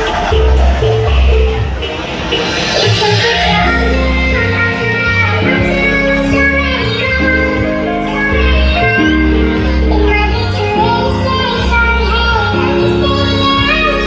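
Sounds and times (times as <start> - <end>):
person singing: 0.0 - 14.0
pop music with booming bass: 0.0 - 14.0.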